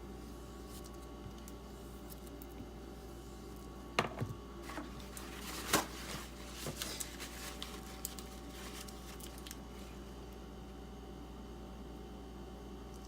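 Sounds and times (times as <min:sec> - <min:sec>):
low mains hum: 0:00.0 - 0:13.0.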